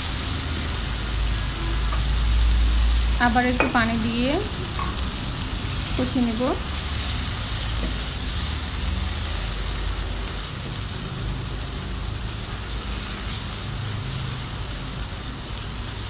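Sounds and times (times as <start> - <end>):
masala sizzling in a pan: 0.0 - 16.0.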